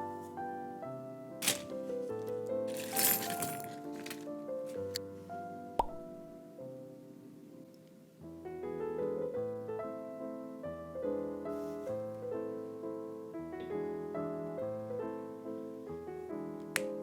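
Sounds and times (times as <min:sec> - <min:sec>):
piano music: 0:00.0 - 0:07.6, 0:08.2 - 0:17.0.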